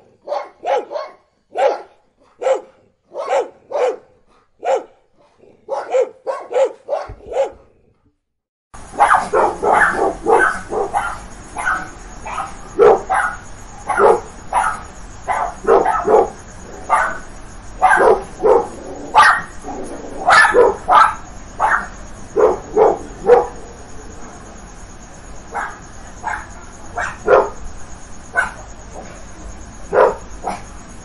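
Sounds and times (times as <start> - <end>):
dog barking: 0.2 - 7.7, 8.9 - 23.6, 25.5 - 27.6, 28.4 - 28.7, 29.9 - 30.7.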